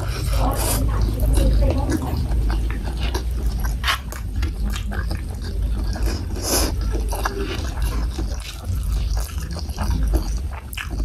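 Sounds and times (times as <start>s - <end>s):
close chewing with mouth smacks: 0.0s - 11.0s.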